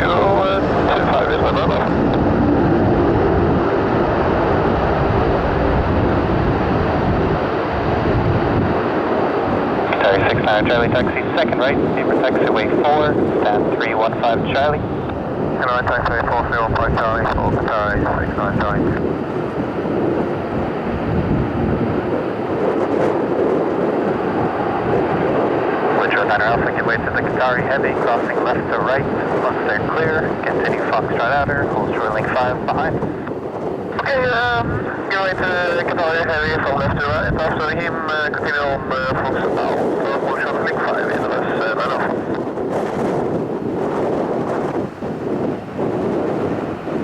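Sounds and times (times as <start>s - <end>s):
turboprop engines droning: 0.0s - 47.0s.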